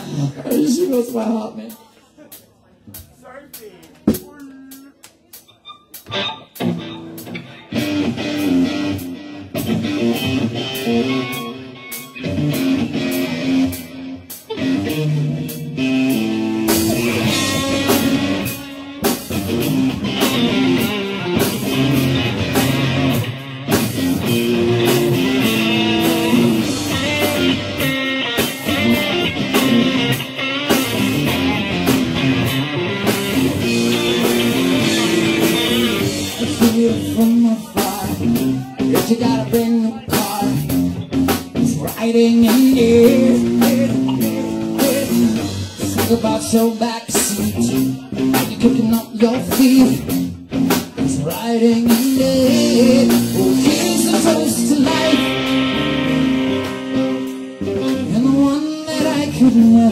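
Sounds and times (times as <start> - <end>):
drum kit: 0.0 - 59.9
electric guitar: 4.0 - 59.9.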